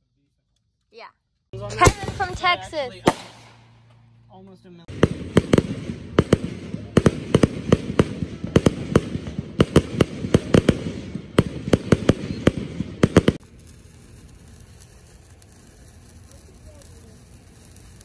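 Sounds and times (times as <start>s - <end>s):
fireworks cracking and popping: 1.6s - 4.1s, 4.8s - 18.0s.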